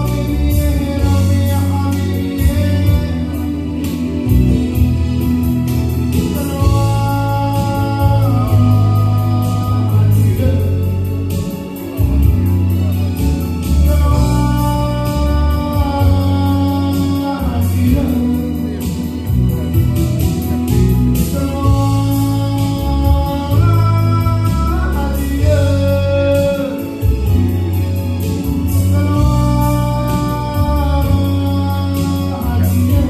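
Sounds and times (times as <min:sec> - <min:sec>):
man singing a hymn: 0:00.0 - 0:05.2, 0:06.0 - 0:12.0, 0:13.8 - 0:19.8, 0:21.1 - 0:27.5, 0:28.6 - 0:33.0
instrumental accompaniment with beat: 0:00.0 - 0:33.0.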